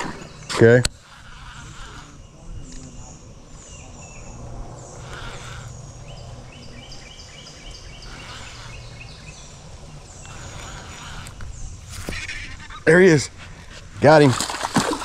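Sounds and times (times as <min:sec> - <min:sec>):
wild birds chirping: 0:00.0 - 0:15.0
low steady rumble: 0:01.0 - 0:14.0.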